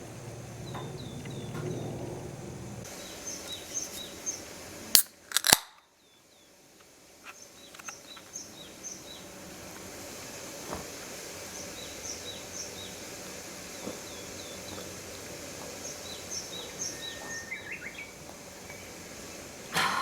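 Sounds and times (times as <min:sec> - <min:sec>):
small birds chirping: 0:00.0 - 0:04.6, 0:07.2 - 0:10.3, 0:11.2 - 0:20.0
outdoor background hiss: 0:00.0 - 0:20.0.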